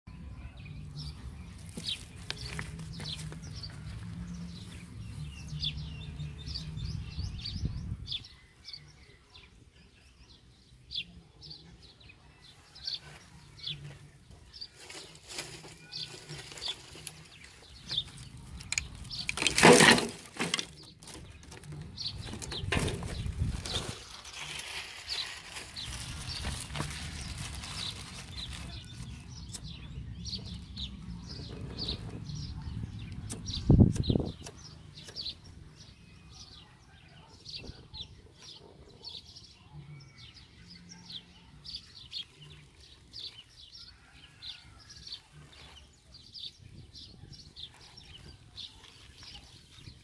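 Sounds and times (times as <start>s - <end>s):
small birds chirping: 0.1s - 50.0s.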